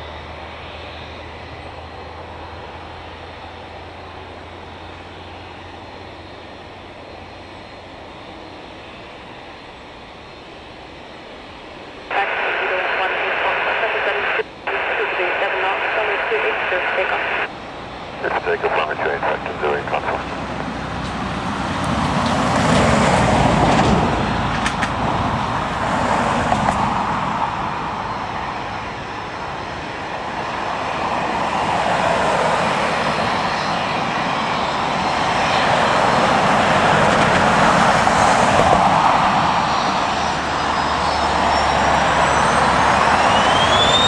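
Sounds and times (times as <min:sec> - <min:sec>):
jet engines roaring: 0:00.0 - 0:44.0
rising engine whine: 0:00.0 - 0:44.0.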